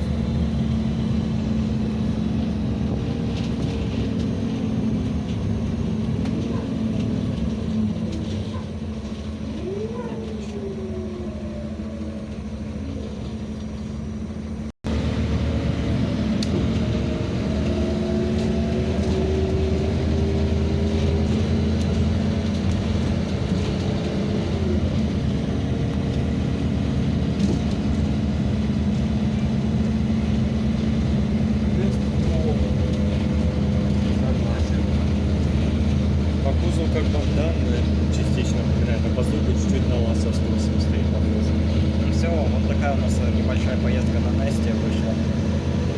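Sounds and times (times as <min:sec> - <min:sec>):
bus engine drone with whine: 0:00.0 - 0:45.9.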